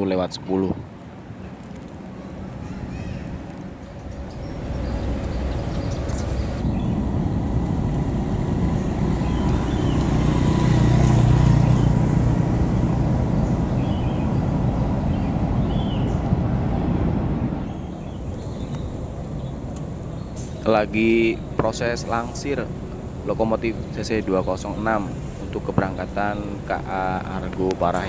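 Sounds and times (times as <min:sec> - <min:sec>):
electric train rumbling past: 0:02.1 - 0:28.0.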